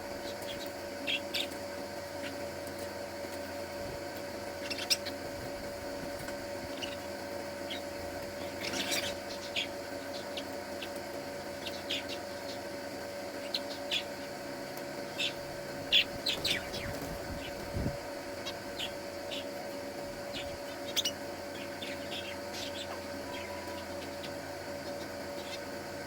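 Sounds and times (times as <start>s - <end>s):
steady background hum: 0.0s - 26.0s
small birds chirping: 0.1s - 2.6s, 4.4s - 25.9s.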